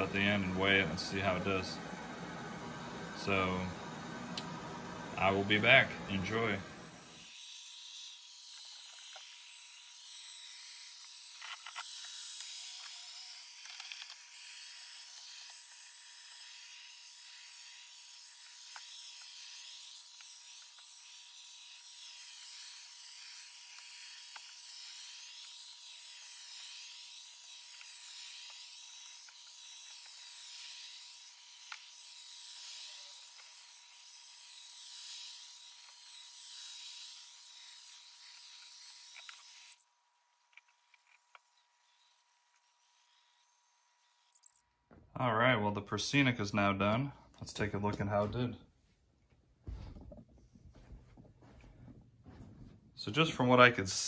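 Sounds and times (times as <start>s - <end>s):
robot vacuum whirring: 0.0s - 44.6s.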